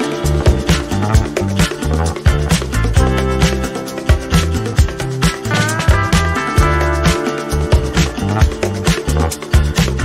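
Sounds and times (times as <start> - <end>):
upbeat funk music: 0.0 - 10.0.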